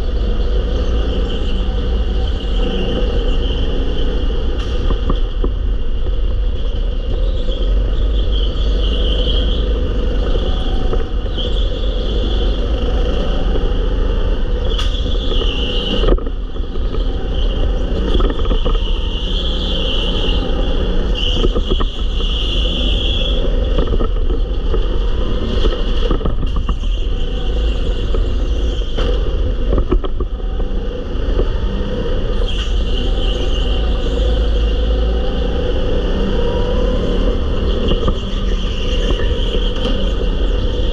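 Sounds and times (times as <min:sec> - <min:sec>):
go-kart engine rumble: 0:00.0 - 0:40.9.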